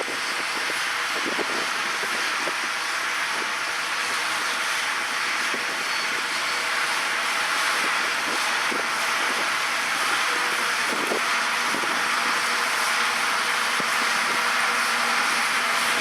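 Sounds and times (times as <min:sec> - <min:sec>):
tractor running: 0:00.0 - 0:16.0.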